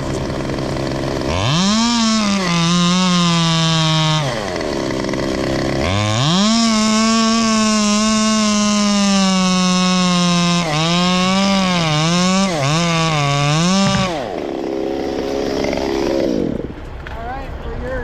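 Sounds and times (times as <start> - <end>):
chainsaw revving and cutting: 0.0 - 16.8.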